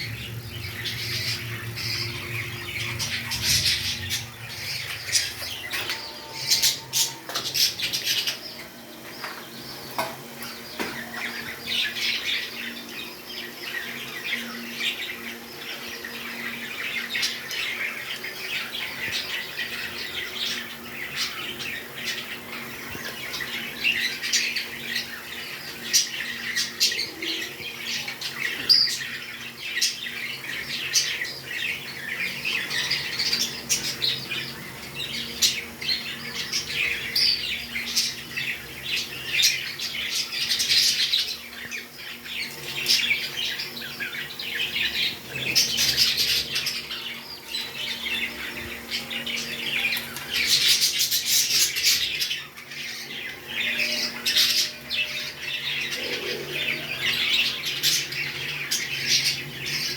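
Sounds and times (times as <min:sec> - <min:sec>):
parrots chirping and squawking: 0:00.0 - 0:59.9.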